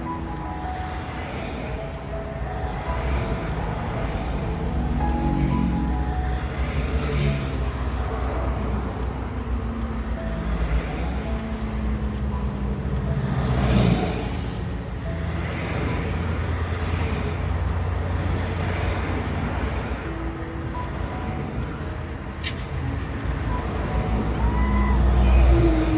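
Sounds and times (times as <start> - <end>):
low truck engine hum: 0.0 - 25.9
traffic rumble: 0.0 - 25.9
vehicles passing: 0.0 - 25.9.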